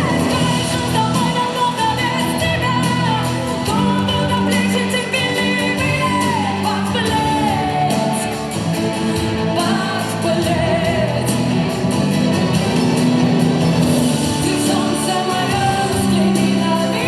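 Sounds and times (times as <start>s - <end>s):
person singing: 0.0s - 11.9s, 14.2s - 17.0s
steady drum beat: 0.0s - 17.0s.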